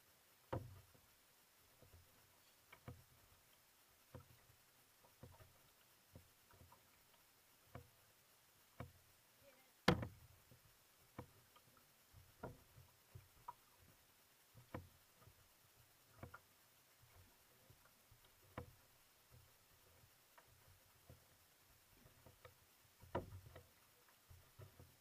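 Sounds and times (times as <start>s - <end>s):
water slapping against canoe hull: 0.5s - 1.0s, 1.7s - 8.0s, 8.7s - 9.0s, 9.8s - 25.0s.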